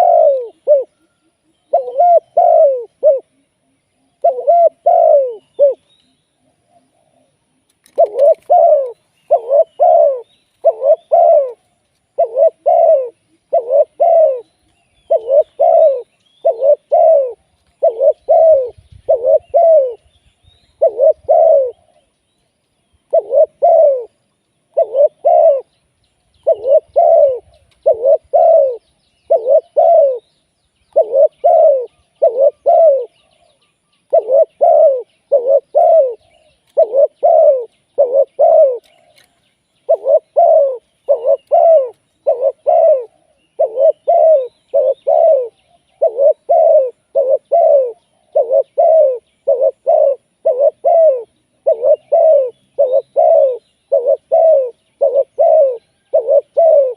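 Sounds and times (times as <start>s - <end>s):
dove cooing: 0.0s - 20.1s, 20.7s - 22.1s, 23.0s - 25.7s, 26.4s - 30.3s, 30.9s - 56.9s.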